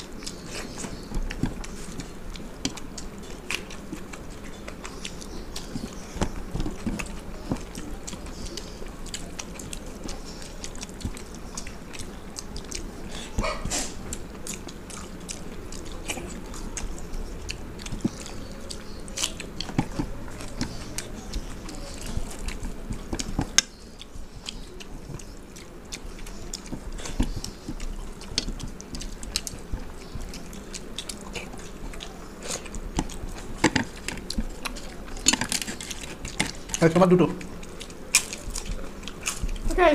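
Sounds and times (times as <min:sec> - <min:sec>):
chewing and wet mouth noises: 0:00.0 - 0:39.9.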